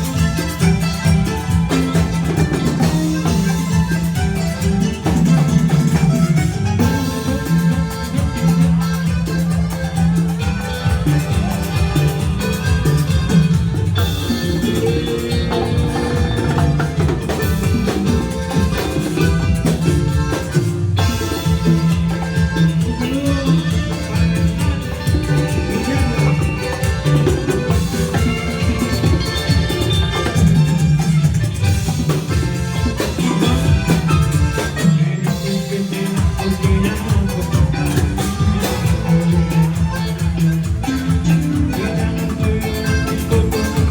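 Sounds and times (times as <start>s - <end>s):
band playing latin dance music: 0.0s - 43.9s.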